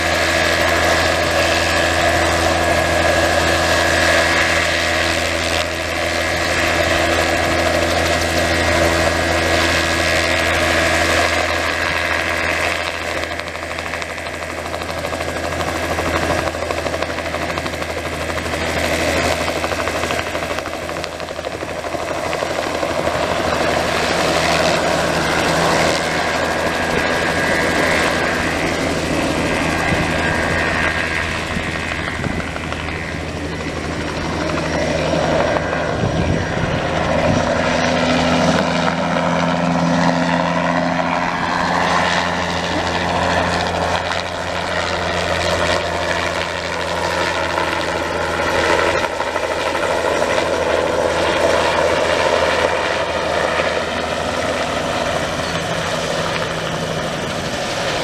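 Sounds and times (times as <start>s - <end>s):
helicopter engine and rotor: 0.0s - 58.0s
helicopter lifting off: 0.0s - 58.0s.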